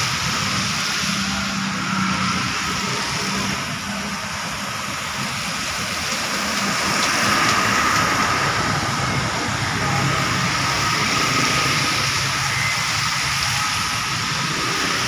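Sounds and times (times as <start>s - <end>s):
bus passing on wet road: 0.0s - 15.0s
passing cars and motorcycles: 0.0s - 15.0s.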